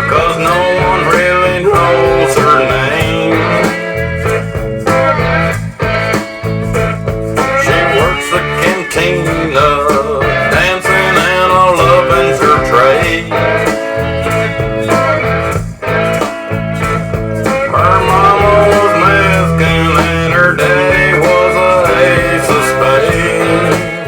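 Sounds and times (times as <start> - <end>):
country blues rock song: 0.0 - 24.0
lead guitar bending notes: 0.0 - 24.0.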